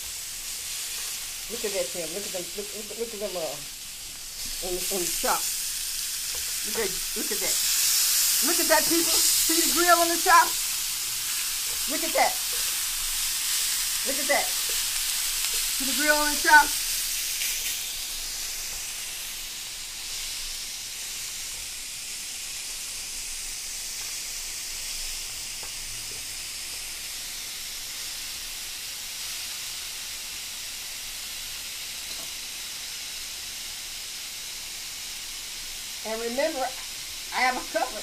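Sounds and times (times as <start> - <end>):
pork chops sizzling on grill: 0.0 - 38.0.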